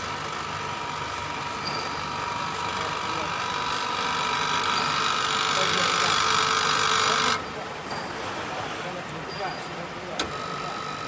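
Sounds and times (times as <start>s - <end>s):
machine high whine: 0.0s - 11.0s.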